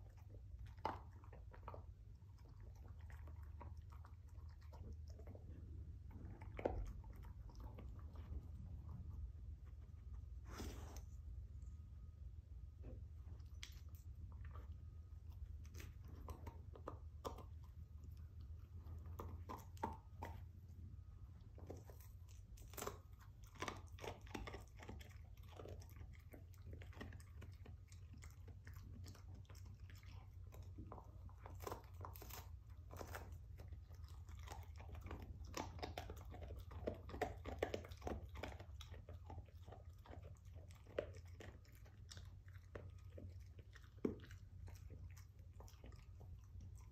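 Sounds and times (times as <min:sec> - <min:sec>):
dog gnawing on a bone: 0:00.0 - 0:10.1, 0:12.8 - 0:46.9.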